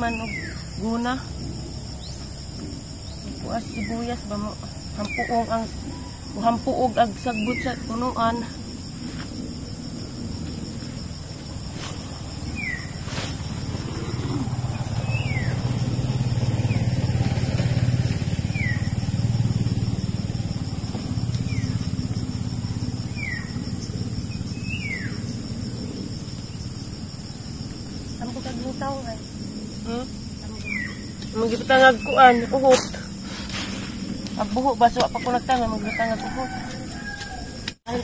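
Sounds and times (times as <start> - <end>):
motor vehicle engine humming: 0.0 - 37.8.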